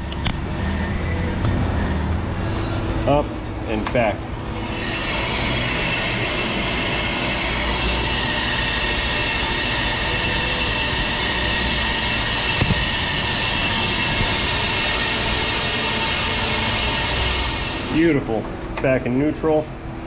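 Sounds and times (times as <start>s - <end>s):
brake lathe machining noise: 0.0s - 19.6s
high ringing tones: 0.6s - 18.2s.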